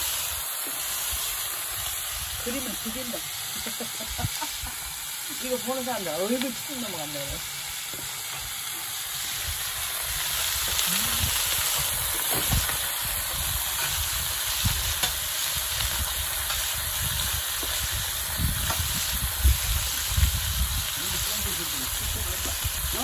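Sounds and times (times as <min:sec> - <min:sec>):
pork sizzling on a griddle: 0:00.0 - 0:23.0.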